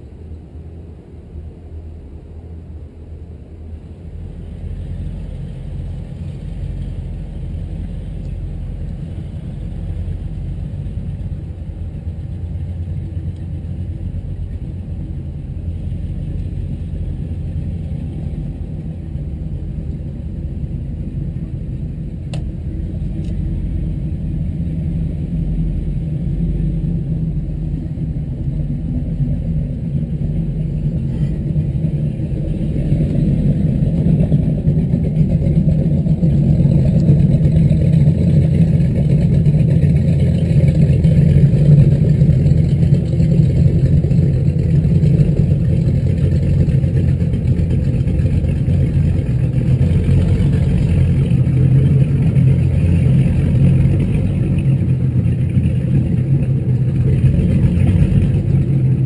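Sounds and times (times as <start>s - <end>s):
boat engines rumbling: 0.0s - 59.0s
motorboat passing close: 0.0s - 59.0s.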